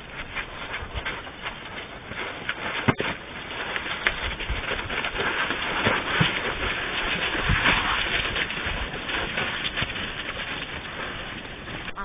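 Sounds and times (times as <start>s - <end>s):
elephants shuffling footsteps: 0.0s - 12.0s.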